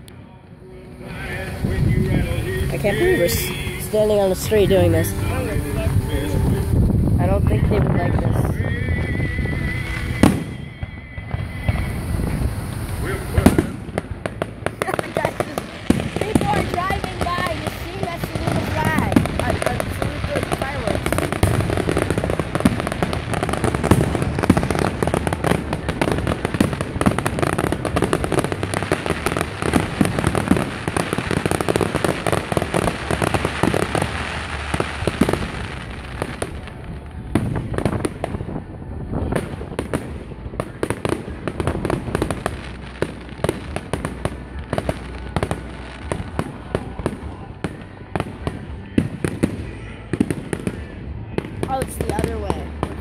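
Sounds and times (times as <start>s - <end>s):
fireworks crackling bangs and pops: 1.7s - 53.0s.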